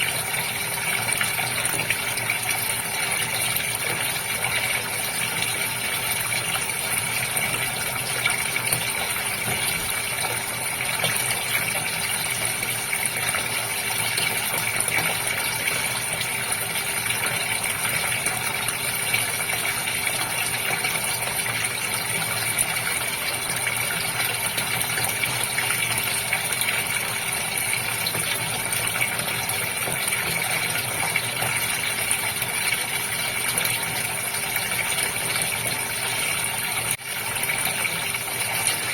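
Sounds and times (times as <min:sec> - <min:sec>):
aquarium pump hum: 0:00.0 - 0:38.9
water splashing in aquarium: 0:00.0 - 0:38.9.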